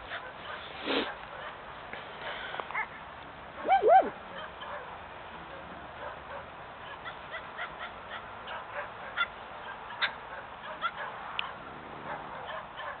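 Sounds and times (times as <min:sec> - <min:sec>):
dogs barking: 0:00.0 - 0:01.6, 0:03.6 - 0:13.0.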